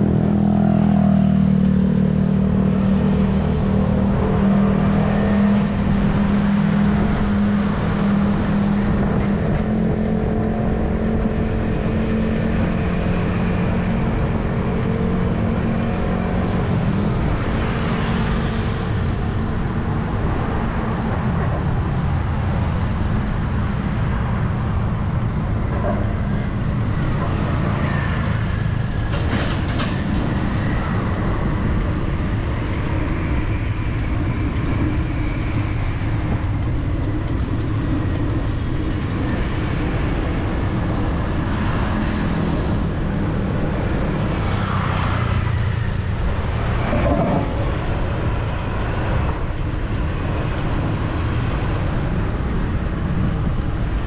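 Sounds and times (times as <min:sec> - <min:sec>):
low engine drone: 0:00.0 - 0:54.0
vehicles passing: 0:00.0 - 0:54.0.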